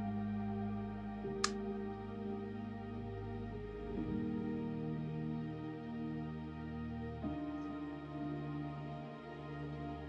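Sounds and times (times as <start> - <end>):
ambient new-age music: 0.0 - 10.0.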